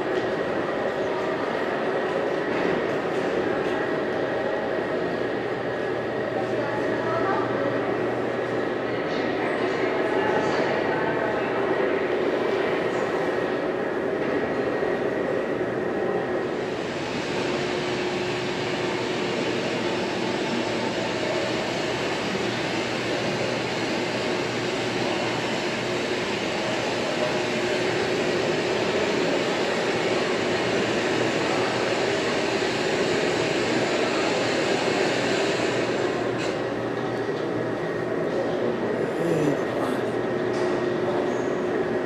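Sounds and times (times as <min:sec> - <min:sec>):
rushing ventilation noise: 0:00.0 - 0:42.0.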